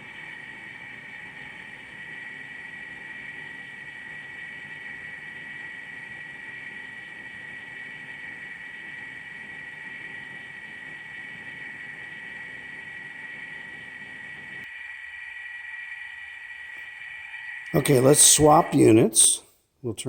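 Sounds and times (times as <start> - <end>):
recorded generator drone with whine: 0.0 - 19.4.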